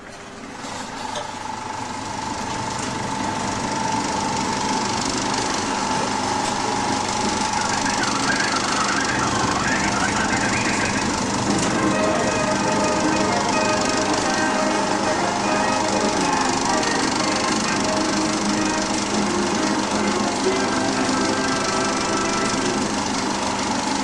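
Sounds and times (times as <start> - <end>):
projector high hum: 0.0 - 24.0
film projector clattering: 0.1 - 24.0.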